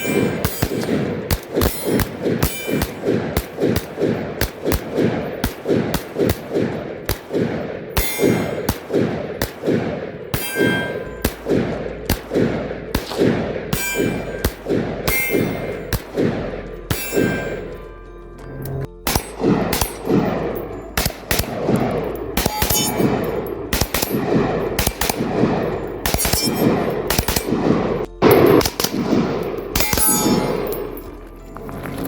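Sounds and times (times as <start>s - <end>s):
pistol shots: 0.0s - 18.1s, 19.0s - 31.3s
bullets ringing off steel targets: 0.0s - 32.0s.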